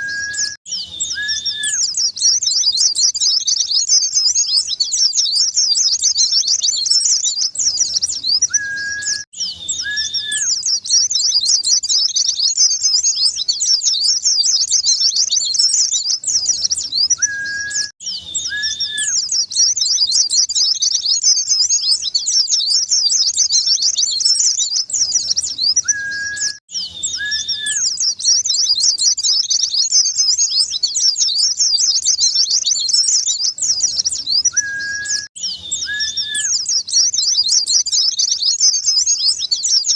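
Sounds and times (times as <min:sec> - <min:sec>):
birds twittering high chirps: 0:00.0 - 0:39.9.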